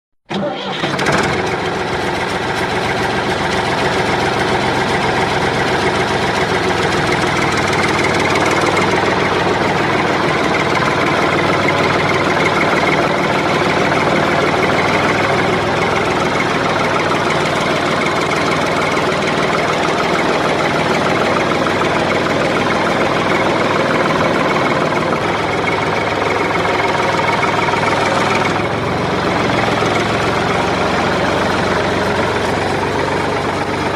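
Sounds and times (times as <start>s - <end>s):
heavy diesel engines running: 0.3s - 33.9s.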